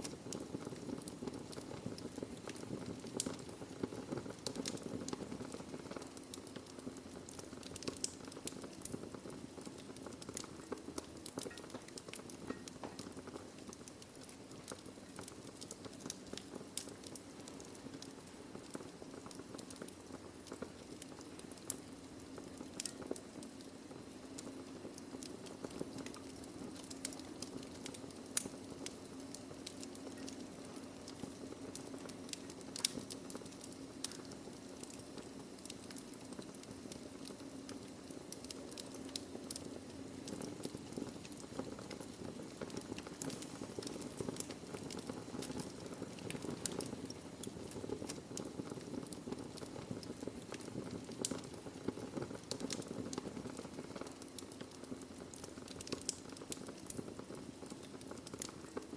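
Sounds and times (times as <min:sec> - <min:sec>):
burning logs hissing and rumbling: 0:00.0 - 0:58.9
fire crackles and pops: 0:00.0 - 0:58.9.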